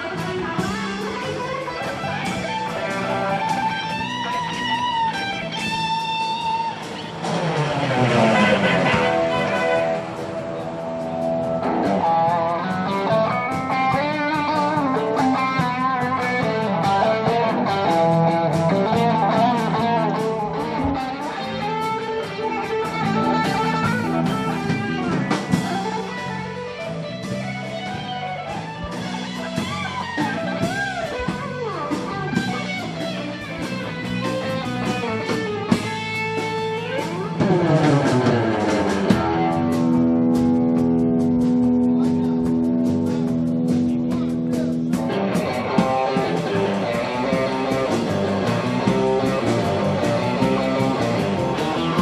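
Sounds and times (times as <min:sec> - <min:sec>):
electric guitar: 0:00.0 - 0:52.0
small live band playing: 0:00.0 - 0:52.0.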